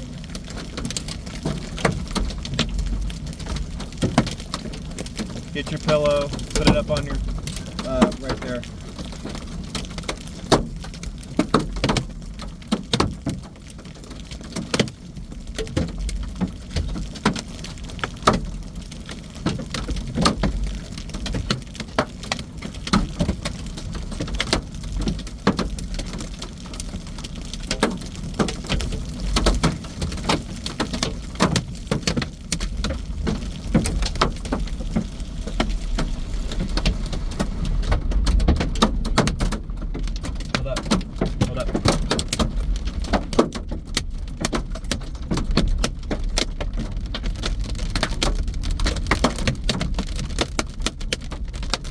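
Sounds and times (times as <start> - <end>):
low storm rumble: 0.0 - 14.4, 15.0 - 51.9
hailstones hitting car roof: 0.0 - 51.9.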